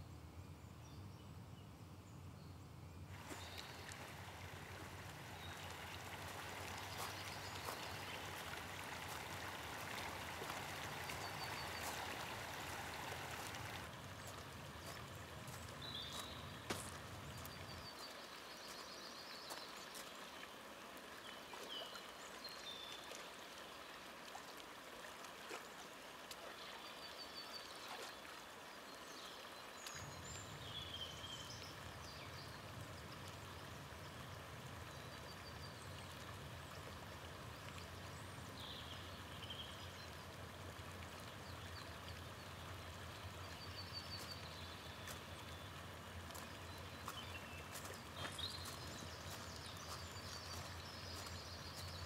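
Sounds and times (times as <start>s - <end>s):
river flowing: 3.1s - 52.0s.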